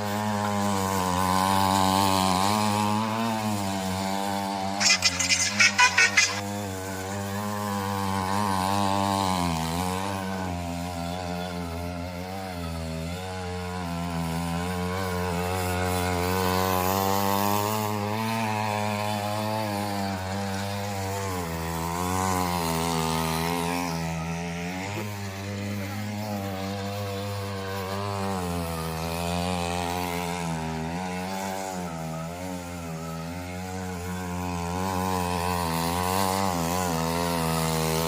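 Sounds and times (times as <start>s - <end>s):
two-stroke tiller engine running: 0.0s - 38.0s.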